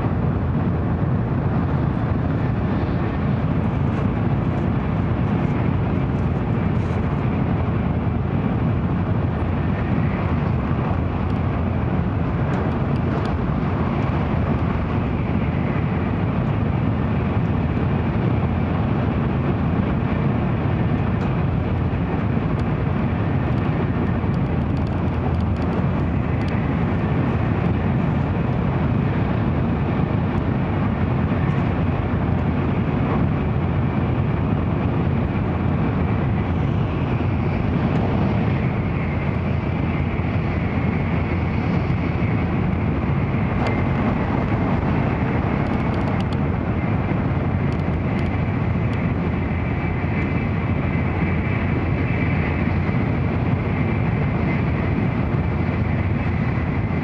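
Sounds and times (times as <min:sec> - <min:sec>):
train interior low rumble: 0:00.0 - 0:57.0.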